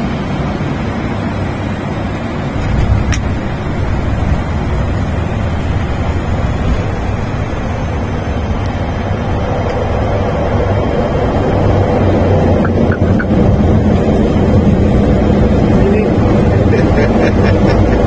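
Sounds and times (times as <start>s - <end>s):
airplane engines and wheels rumbling: 0.0s - 18.0s.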